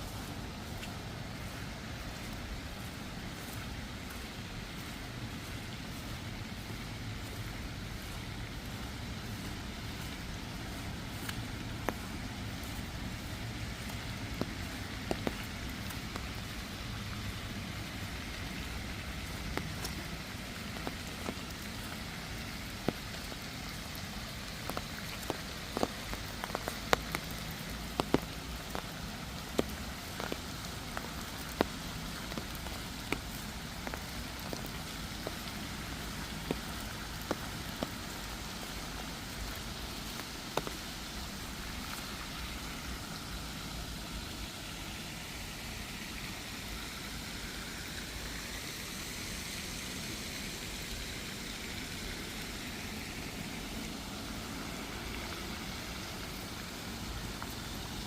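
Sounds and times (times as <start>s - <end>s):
rain hissing: 0.0s - 58.0s
raindrops ticking: 0.0s - 58.0s.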